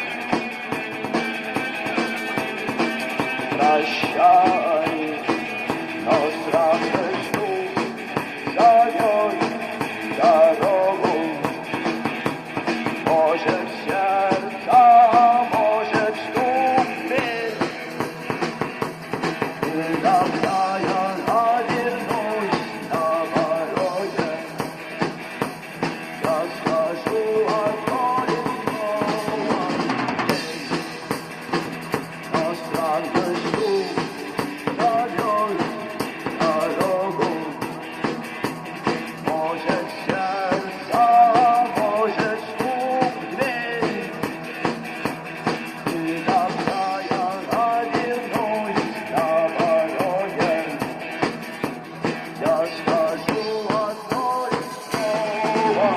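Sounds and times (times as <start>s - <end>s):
drum kit steady beat: 0.0s - 55.9s.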